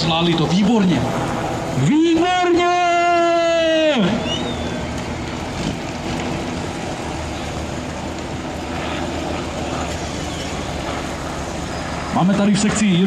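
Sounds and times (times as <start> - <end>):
truck engine idling at low revs: 0.0 - 13.0.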